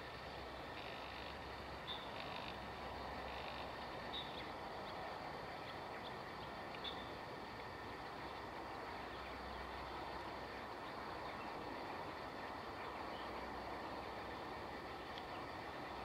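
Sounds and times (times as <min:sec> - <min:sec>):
faint jet rumble: 0:00.0 - 0:16.0.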